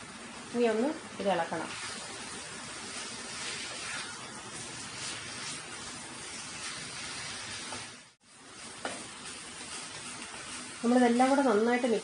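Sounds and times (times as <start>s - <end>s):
food sizzling in a frying pan: 0.0s - 12.0s
wooden spatula scraping: 1.3s - 12.0s.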